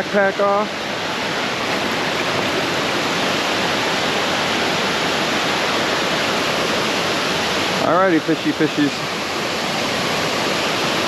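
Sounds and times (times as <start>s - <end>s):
creek rushing over falls: 0.0s - 11.0s.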